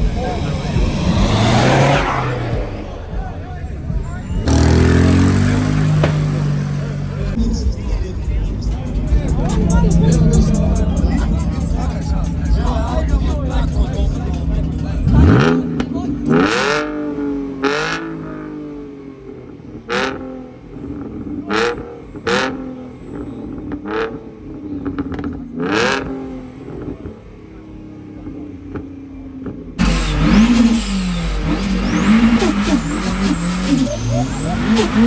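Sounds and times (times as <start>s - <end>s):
car engine revving: 0.0s - 35.0s
exhaust cracks: 0.0s - 35.0s
rumbling engine: 0.0s - 35.0s.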